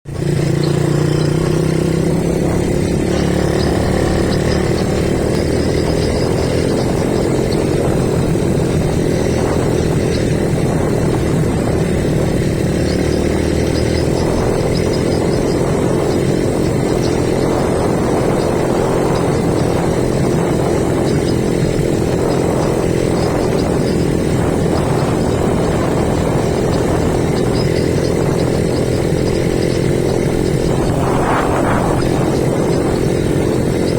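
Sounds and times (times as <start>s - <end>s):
small vehicle engine running: 0.0s - 33.9s.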